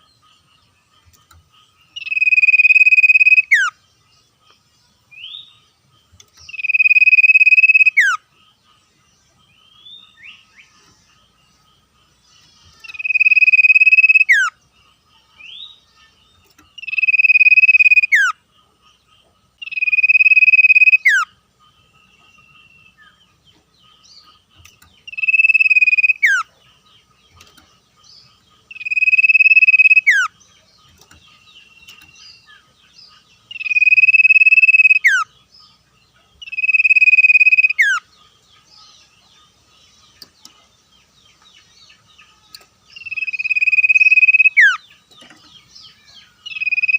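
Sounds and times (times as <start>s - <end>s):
faint chirps: 0.0s - 46.9s
thin steady background trill: 0.0s - 46.9s.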